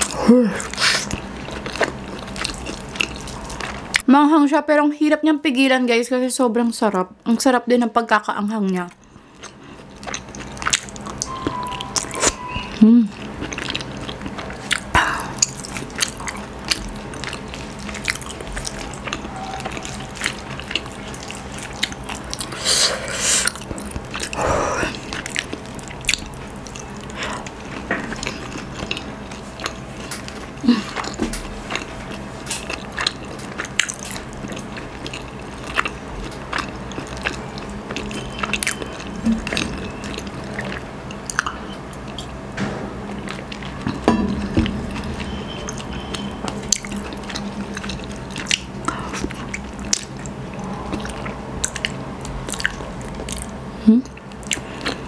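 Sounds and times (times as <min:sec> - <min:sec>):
person chewing with wet clicks: 0:00.0 - 0:04.1, 0:08.6 - 0:22.6, 0:23.3 - 0:42.4, 0:43.1 - 0:55.0.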